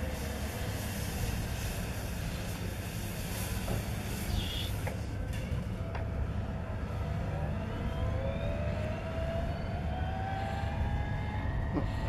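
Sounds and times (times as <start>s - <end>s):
distant engine whine rising: 0.0s - 12.0s.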